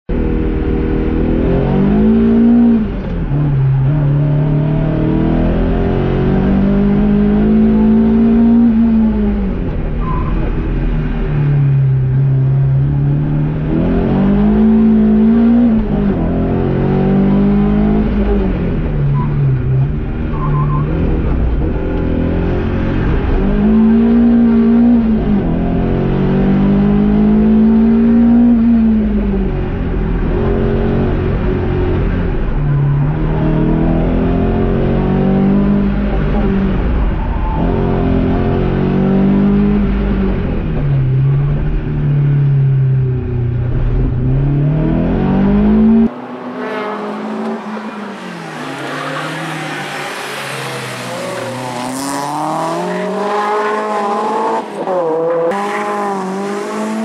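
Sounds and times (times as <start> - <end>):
car engine accelerating: 0.1 - 57.0.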